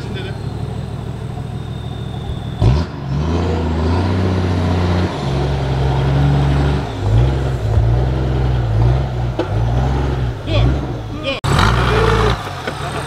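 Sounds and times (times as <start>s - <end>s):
diesel engine revving hard: 0.0s - 13.0s.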